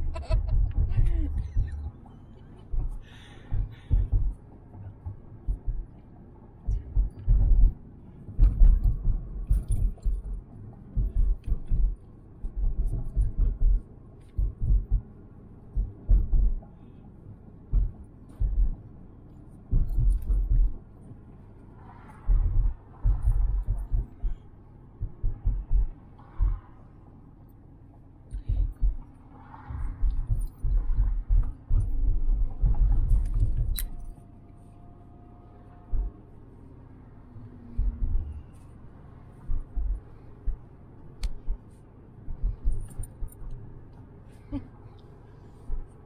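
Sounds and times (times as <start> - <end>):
low thumps and rumble in car: 0.0 - 34.7, 35.6 - 46.0
faint steady hum: 0.0 - 46.0.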